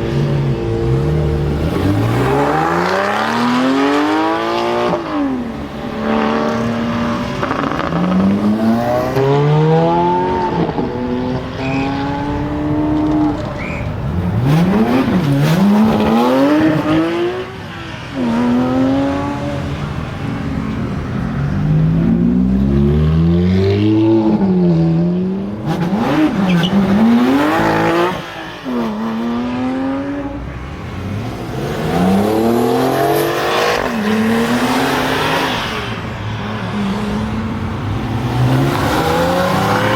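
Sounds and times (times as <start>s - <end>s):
car engines accelerating hard: 0.0s - 39.9s.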